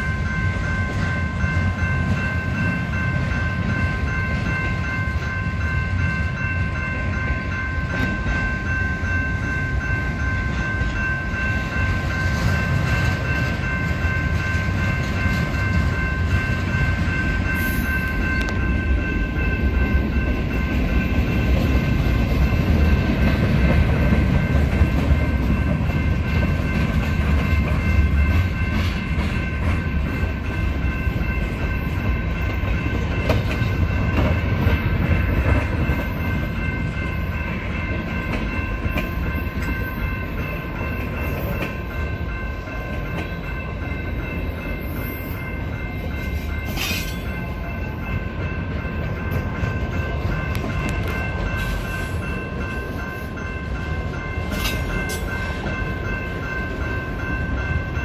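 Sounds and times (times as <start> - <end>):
crossing bell ringing: 0.0 - 58.0
freight train wheels on rail: 0.0 - 58.0.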